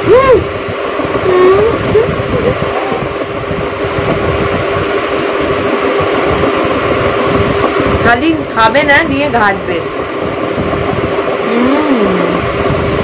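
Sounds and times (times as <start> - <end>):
airflow rumbling on microphone: 0.0 - 13.0
electric fan humming: 0.0 - 13.0.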